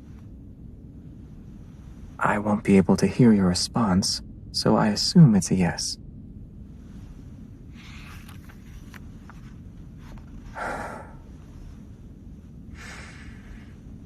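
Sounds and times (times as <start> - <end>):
soft breaths: 0.0 - 3.9, 6.6 - 14.0
low room hum: 0.0 - 14.0.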